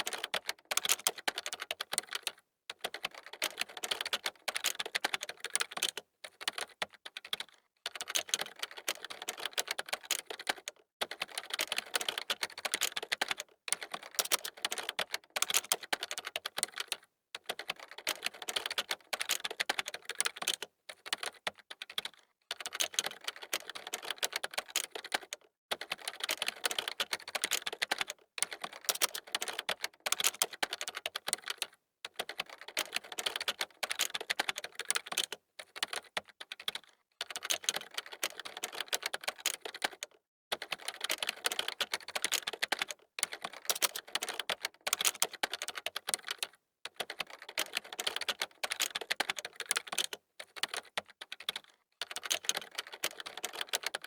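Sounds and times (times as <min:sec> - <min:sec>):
keyboard typing: 0:00.0 - 0:54.0.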